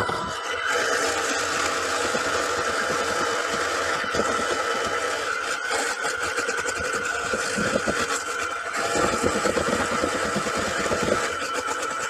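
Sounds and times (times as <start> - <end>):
electric hand mixer whine: 0.0 - 12.0.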